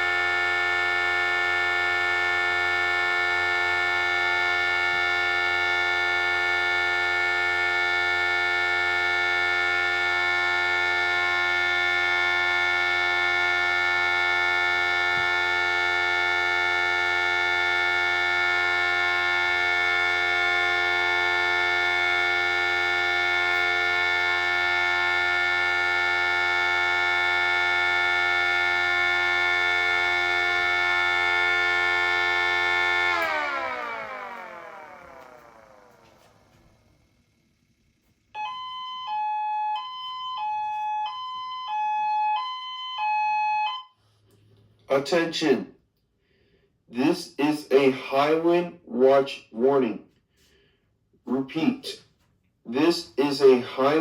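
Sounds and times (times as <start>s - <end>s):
warning sirens steady tone: 0.0s - 45.6s, 51.2s - 54.0s.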